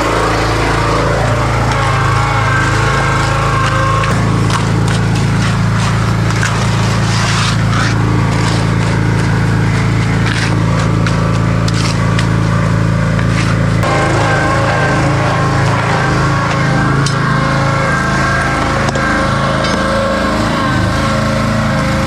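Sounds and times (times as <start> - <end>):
hand tools scraping wet concrete: 0.0 - 22.0
small engine running: 0.0 - 22.0.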